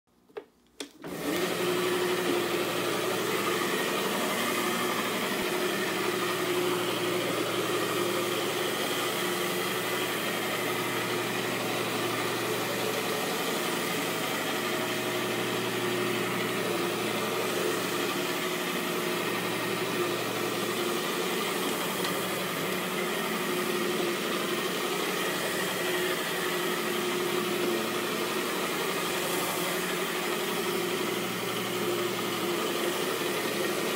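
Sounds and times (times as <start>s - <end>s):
carpet scrubber motor hum: 0.9s - 33.9s
brushes scrubbing carpet: 1.1s - 33.9s.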